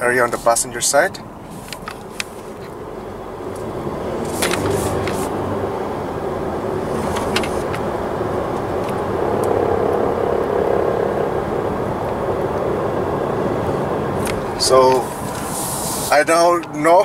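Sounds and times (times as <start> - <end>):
road and tyre noise in car: 0.0 - 17.0.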